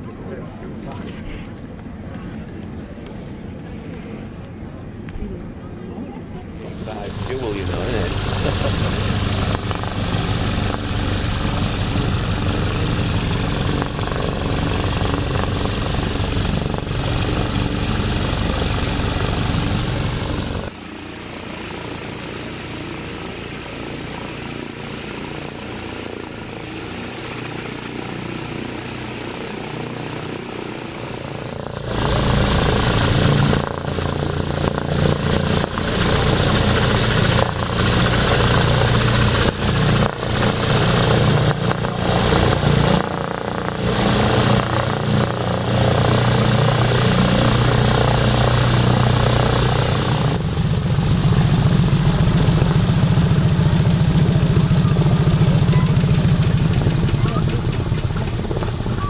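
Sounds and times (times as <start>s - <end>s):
biplane engine and propeller running: 0.0s - 59.0s.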